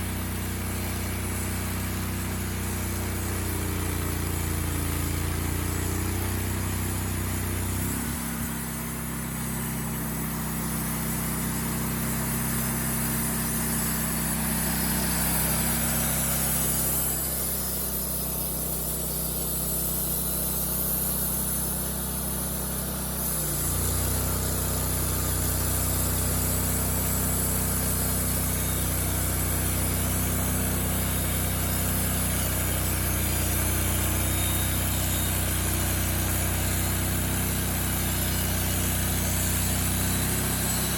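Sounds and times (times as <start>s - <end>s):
saw cutting log: 0.0s - 40.9s
sawmill engine running: 0.0s - 40.9s.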